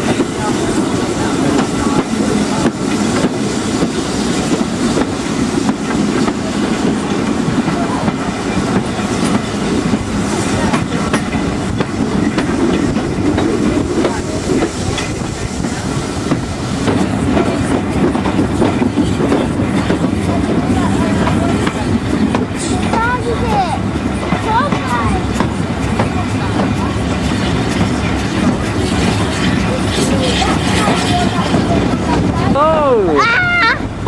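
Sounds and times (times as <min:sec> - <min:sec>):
wheels clattering over rail joints: 0:00.0 - 0:32.6
train carriage rumble: 0:00.0 - 0:34.0.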